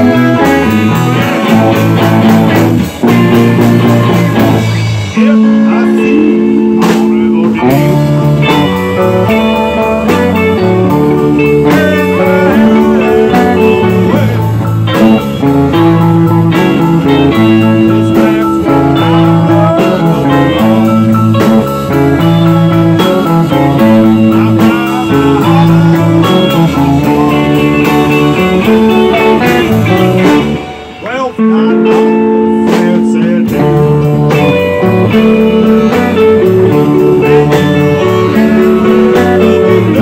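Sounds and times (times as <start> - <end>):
electric guitars: 0.0 - 40.0
steady drum beat: 0.0 - 40.0.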